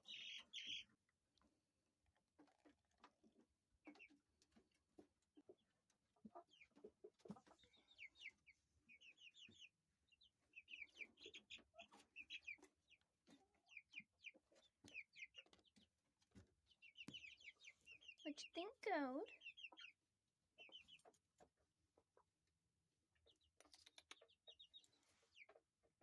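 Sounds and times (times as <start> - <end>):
chicks peeping: 0.0 - 1.5, 2.1 - 26.0.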